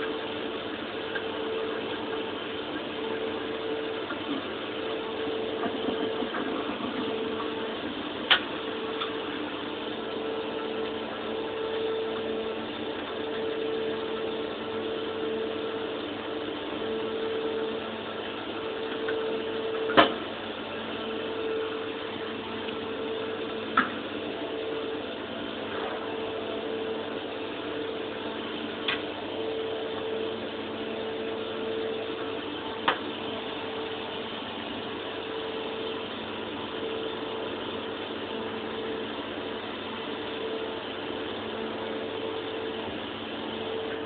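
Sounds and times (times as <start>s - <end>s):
machine mechanical hum: 0.0s - 44.0s.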